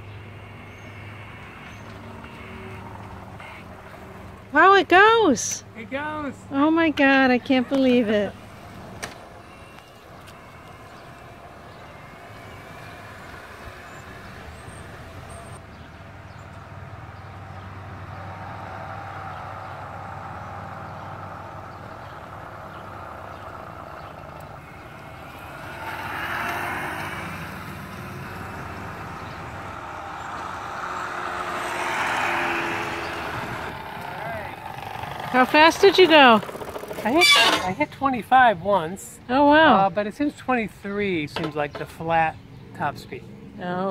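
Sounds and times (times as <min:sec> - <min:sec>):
electric moped passing: 0:00.0 - 0:37.8.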